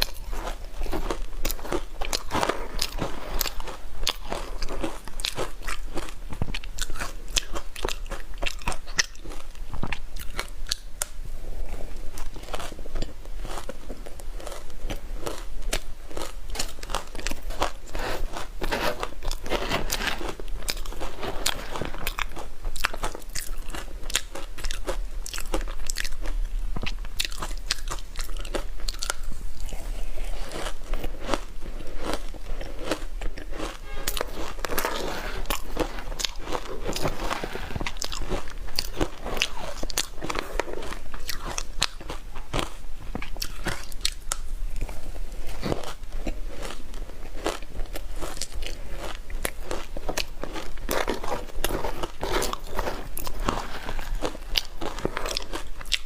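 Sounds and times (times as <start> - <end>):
ice crunching being chewed: 0.0 - 56.0.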